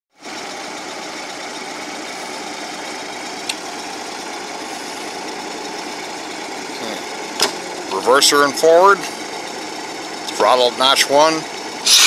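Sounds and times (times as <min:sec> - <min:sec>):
engine idling: 0:00.2 - 0:12.0.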